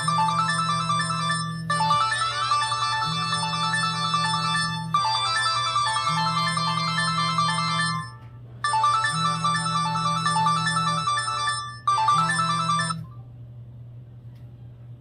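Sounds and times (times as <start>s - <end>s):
phone ringtone melody: 0.0s - 13.1s
low steady hum: 0.0s - 15.0s.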